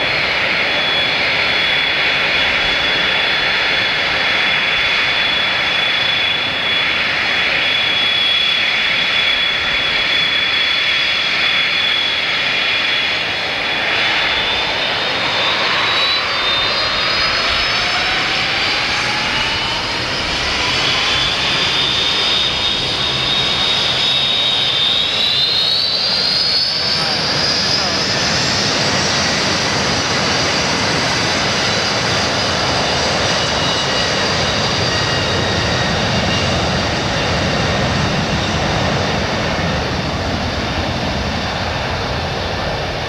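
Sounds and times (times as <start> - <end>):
jet engines whining: 0.0 - 43.0.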